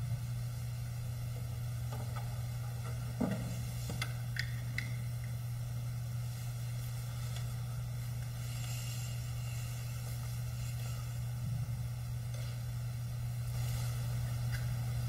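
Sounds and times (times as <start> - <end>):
faint hiss: 0.0 - 15.0
low electrical hum: 0.0 - 15.0.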